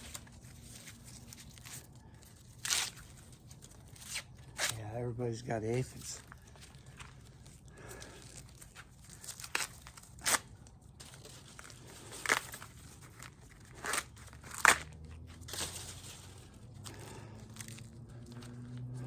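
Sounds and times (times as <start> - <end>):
corn husks ripping: 0.0 - 4.9, 5.9 - 19.0
corn husks rustling: 0.0 - 19.0.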